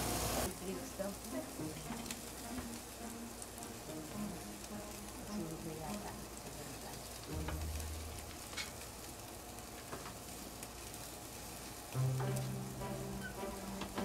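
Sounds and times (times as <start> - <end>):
low steady hum: 0.0 - 14.0
meat sizzling on a grill: 0.0 - 14.0.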